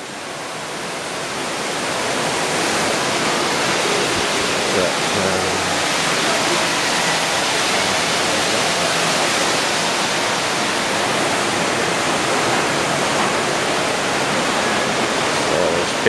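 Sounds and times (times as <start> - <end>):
fountain water splashing into pool: 0.0 - 16.0.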